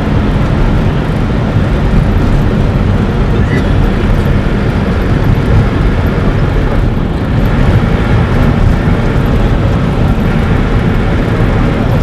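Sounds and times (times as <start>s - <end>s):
loud steady low noise with hiss: 0.0s - 12.0s.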